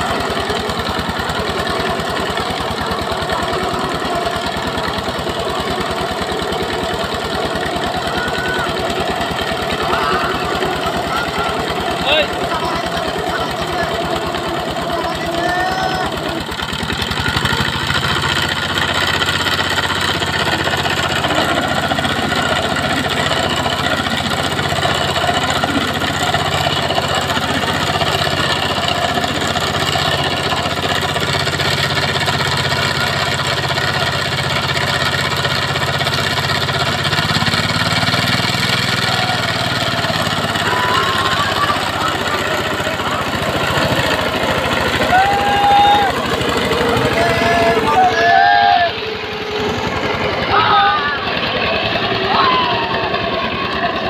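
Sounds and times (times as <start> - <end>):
diesel tiller engine under load: 0.0 - 54.0.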